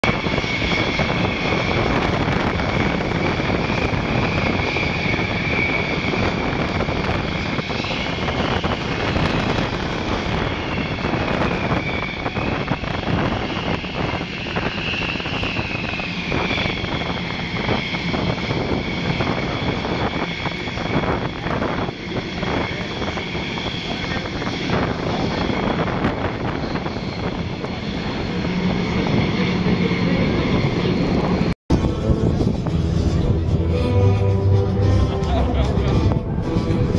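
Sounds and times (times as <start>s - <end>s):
jet engines whining: 0.0s - 36.9s.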